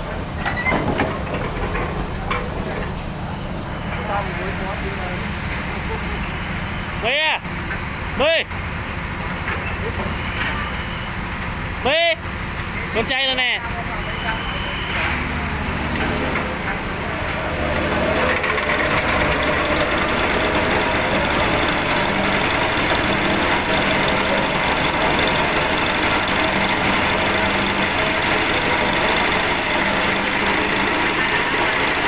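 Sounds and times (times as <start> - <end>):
construction machine diesel engine: 0.0 - 32.0.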